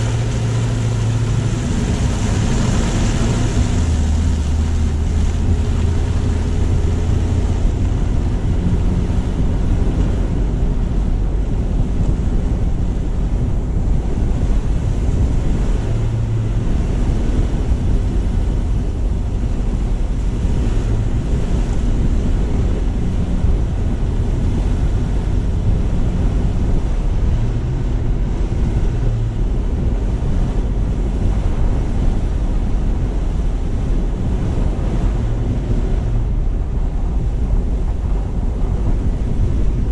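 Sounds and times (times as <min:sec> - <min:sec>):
car driving rumble: 0:00.0 - 0:39.9
tyre road noise: 0:00.0 - 0:39.9
wind buffeting microphone: 0:00.0 - 0:39.9.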